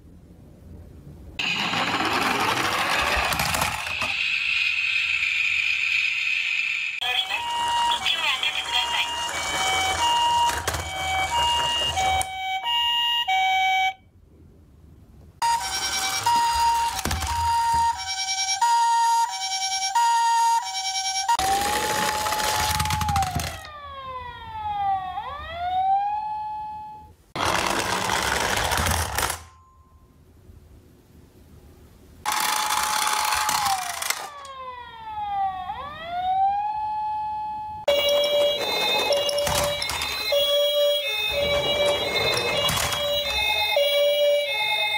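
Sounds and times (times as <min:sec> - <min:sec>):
toy two-tone siren: 0:01.4 - 0:14.0, 0:15.4 - 0:27.2, 0:32.3 - 0:44.9.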